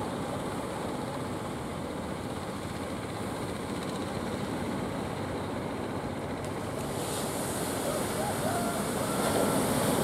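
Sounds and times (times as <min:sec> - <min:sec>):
sea and wind noise: 0:00.0 - 0:10.0.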